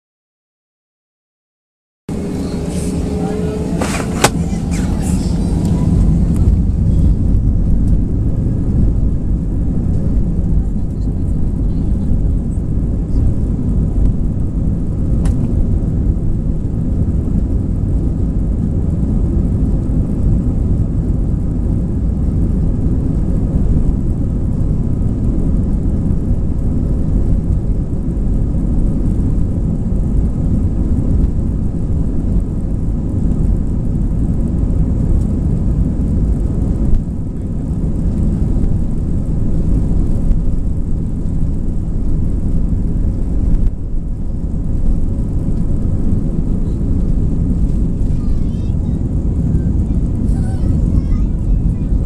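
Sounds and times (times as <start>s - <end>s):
jet cabin rumble: 2.1s - 52.0s.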